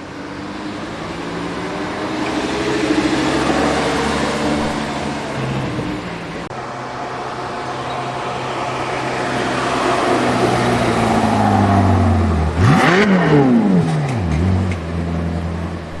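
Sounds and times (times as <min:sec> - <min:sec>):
sports car engine revving: 0:00.1 - 0:06.5, 0:08.9 - 0:16.0.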